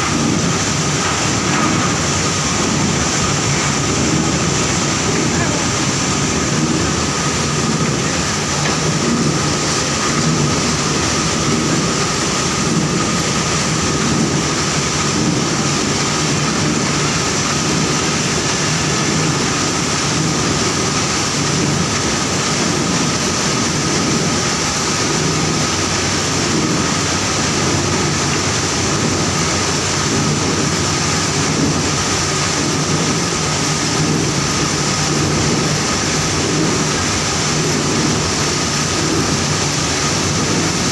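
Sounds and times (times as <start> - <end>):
high mechanical whine: 0.0 - 40.9
mill machinery din: 0.0 - 40.9.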